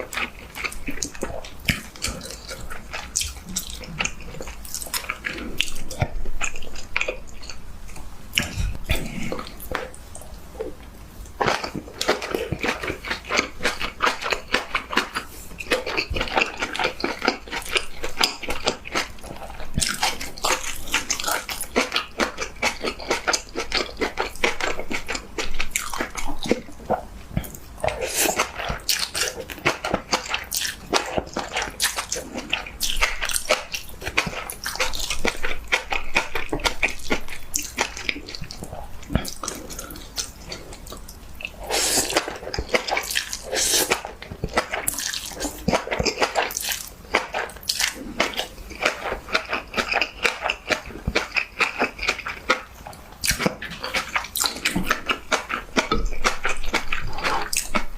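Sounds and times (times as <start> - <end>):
wet chewing and smacking: 0.0 - 57.9
slurping: 8.3 - 57.9.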